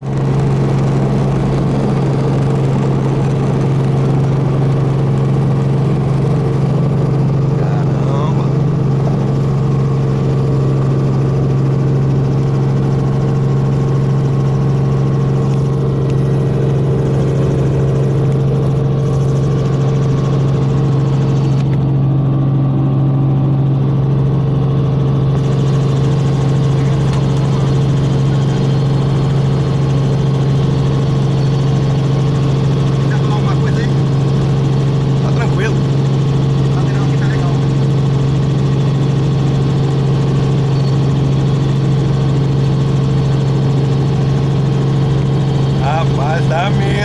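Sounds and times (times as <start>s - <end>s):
helicopter engine and rotor drone: 0.0s - 47.0s.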